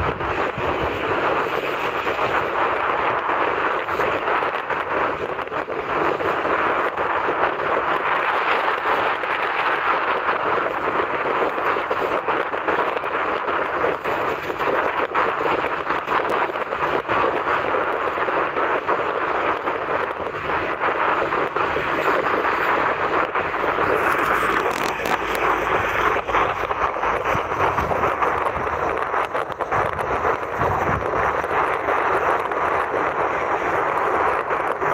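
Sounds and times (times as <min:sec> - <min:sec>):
sea surf: 0:00.0 - 0:34.9
wind rushing: 0:00.0 - 0:34.9.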